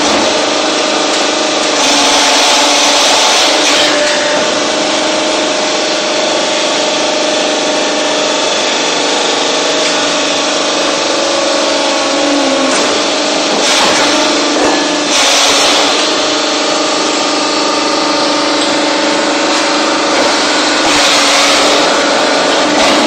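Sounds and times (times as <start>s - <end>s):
hydraulic press machine running: 0.0s - 23.0s.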